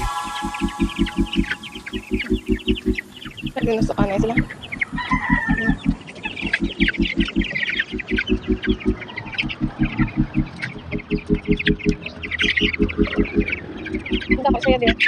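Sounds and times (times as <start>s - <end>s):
chickens clucking and peeping: 0.0s - 15.0s
fast low pulsing: 0.0s - 15.0s.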